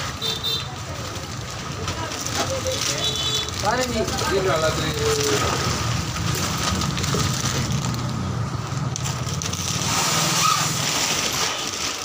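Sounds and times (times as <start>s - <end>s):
busy market din: 0.0s - 12.0s.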